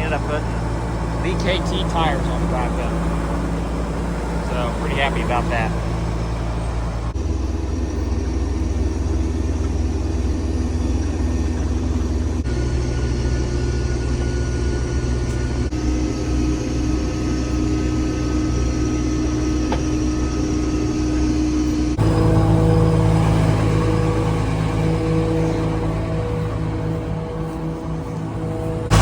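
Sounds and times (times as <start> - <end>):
combine harvester drone: 0.0 - 29.0.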